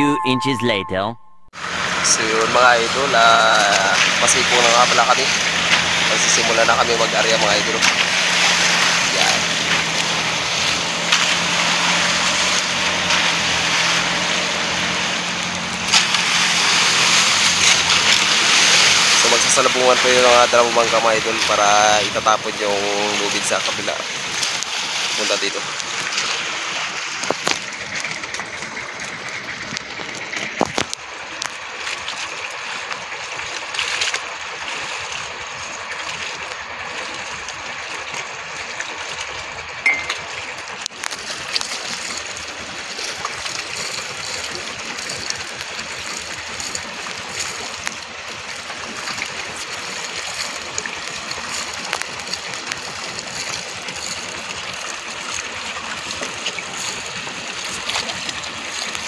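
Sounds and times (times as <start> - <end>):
water splashing along boat hull: 1.6 - 59.0.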